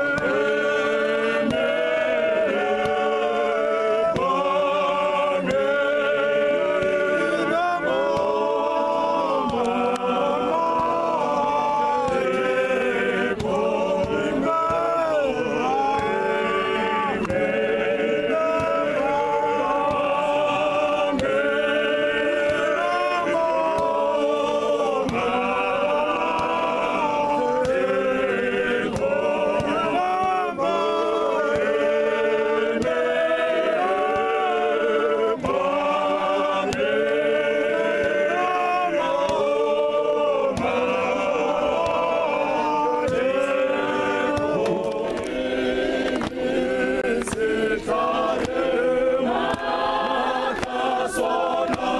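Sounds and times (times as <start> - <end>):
male choir singing a cappella: 0.0 - 51.9.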